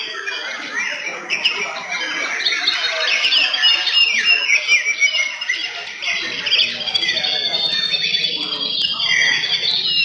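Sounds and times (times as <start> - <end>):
birds singing: 0.0 - 10.0.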